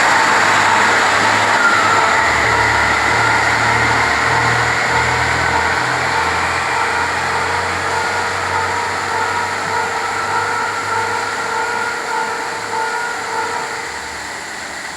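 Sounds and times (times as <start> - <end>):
freight train wheels on rail: 0.0 - 14.9.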